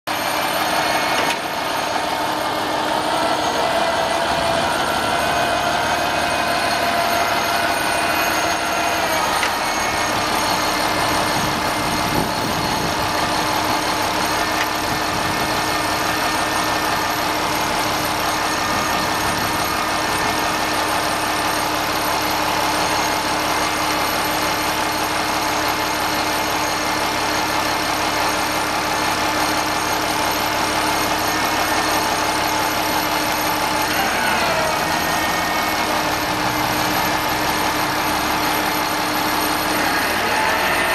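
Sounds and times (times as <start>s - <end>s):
hydraulic whine: 0.1s - 40.9s
truck engine and hydraulics running: 0.1s - 40.9s.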